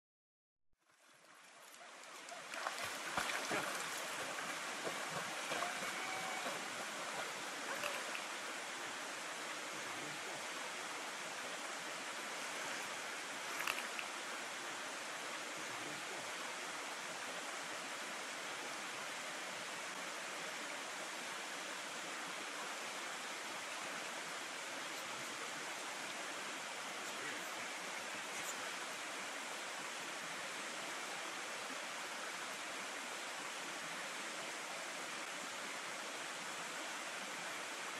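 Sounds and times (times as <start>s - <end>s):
creek water rushing over stones: 0.8s - 37.9s.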